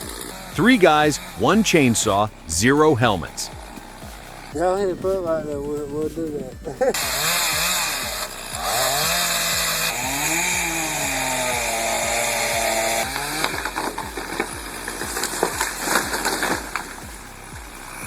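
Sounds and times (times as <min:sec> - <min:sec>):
chainsaw revving: 0:00.0 - 0:04.6, 0:06.5 - 0:18.0.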